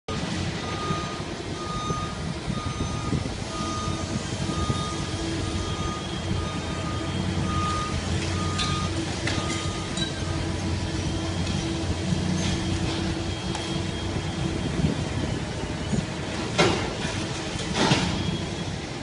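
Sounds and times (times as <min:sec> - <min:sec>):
excavator diesel engine running: 0:00.1 - 0:19.0
reversing alarm beeping: 0:00.1 - 0:19.0.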